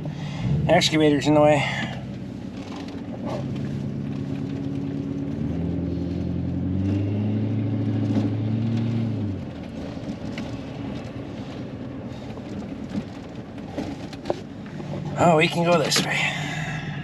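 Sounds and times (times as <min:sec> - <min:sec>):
tractor engine under throttle: 0:00.0 - 0:17.0.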